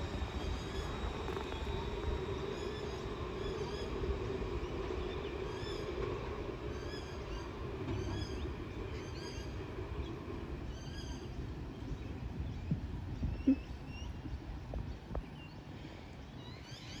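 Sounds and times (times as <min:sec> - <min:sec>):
electric tram hum and rumble: 0:00.0 - 0:17.0.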